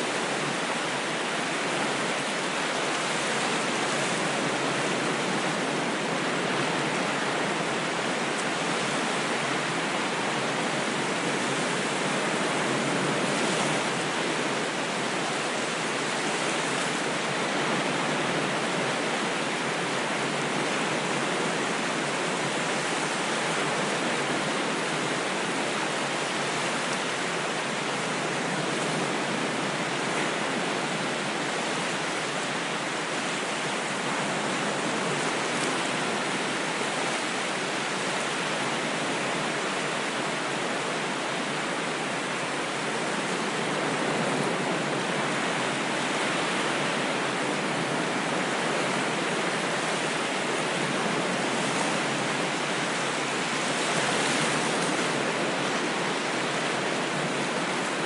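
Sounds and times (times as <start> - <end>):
ocean waves washing: 0.0 - 58.0.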